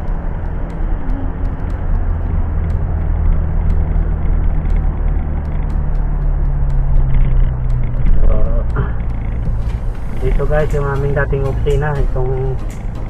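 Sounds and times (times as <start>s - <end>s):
car engine hum: 0.0s - 13.0s
road rumble: 0.0s - 13.0s.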